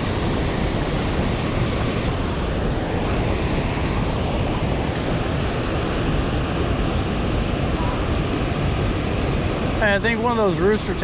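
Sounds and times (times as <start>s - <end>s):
roar of rushing water: 0.0s - 11.0s
wind on microphone: 0.0s - 11.0s.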